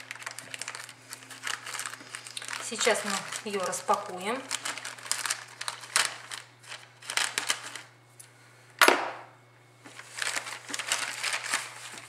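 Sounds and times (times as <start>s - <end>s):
plastic film crinkling: 0.0s - 8.0s, 9.8s - 12.0s.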